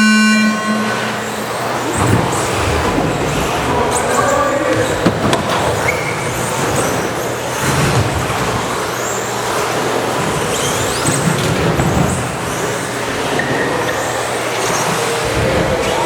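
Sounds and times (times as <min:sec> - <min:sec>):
din of tyres and drivetrains: 0:00.0 - 0:16.0.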